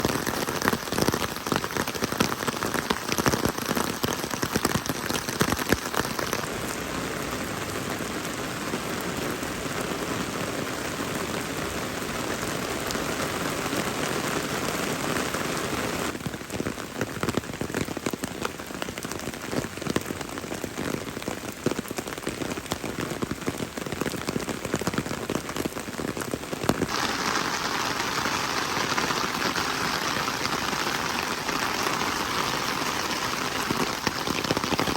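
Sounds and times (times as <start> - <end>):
steady rain with dripping drops: 0.0 - 34.9.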